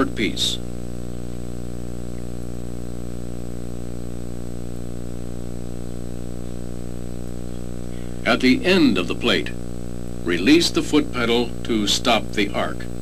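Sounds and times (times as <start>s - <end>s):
welding arc humming and hissing: 0.0s - 13.0s.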